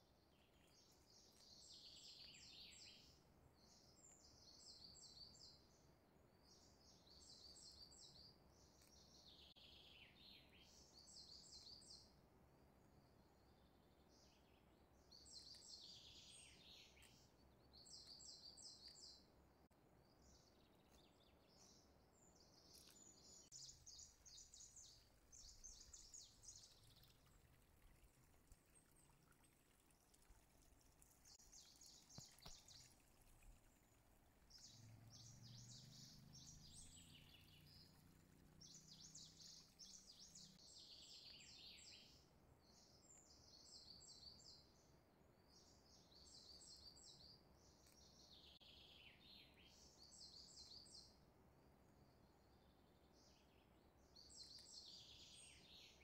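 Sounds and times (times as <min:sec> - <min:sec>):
faint bird chirping: 0:00.0 - 0:56.0.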